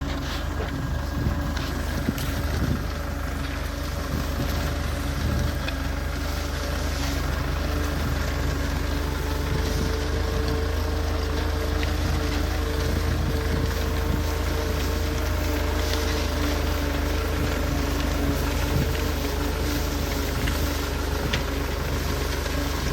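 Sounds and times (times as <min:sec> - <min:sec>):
tractor engine droning: 0:00.0 - 0:22.9.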